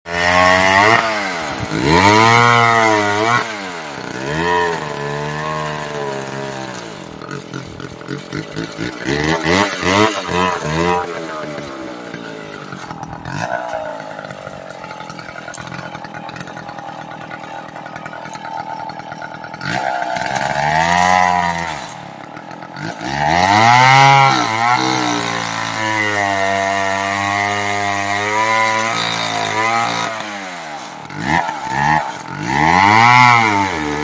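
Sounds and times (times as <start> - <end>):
chainsaw cutting a log: 0.1 - 34.0.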